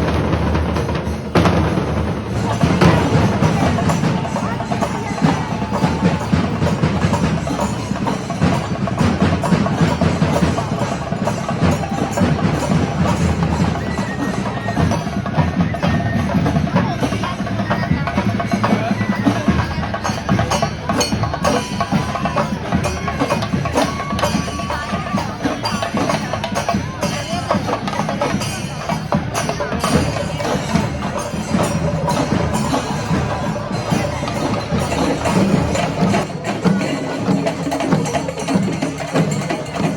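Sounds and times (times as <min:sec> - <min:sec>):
drums beating: 0:00.0 - 0:39.9.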